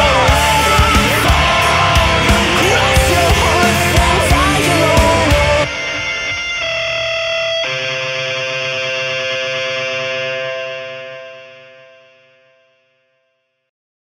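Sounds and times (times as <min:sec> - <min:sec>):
sustained guitar chords: 0:00.0 - 0:13.4.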